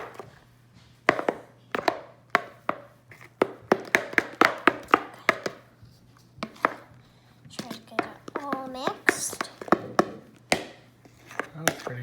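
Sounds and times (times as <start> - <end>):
slime being stirred: 0.0 - 12.0.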